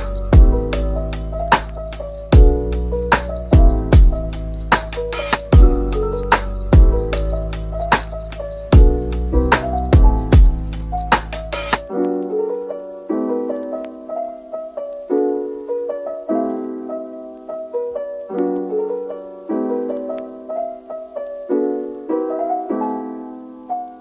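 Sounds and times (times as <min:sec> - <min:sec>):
slow soft piano piece: 0:00.0 - 0:24.0.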